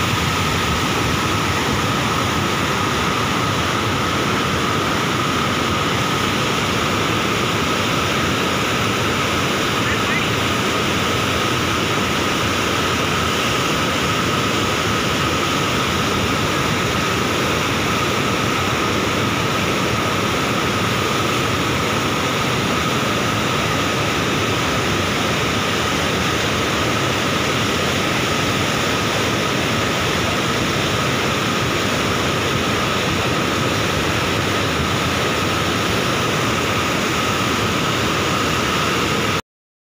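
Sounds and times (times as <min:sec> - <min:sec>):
rushing water roaring: 0:00.0 - 0:39.4.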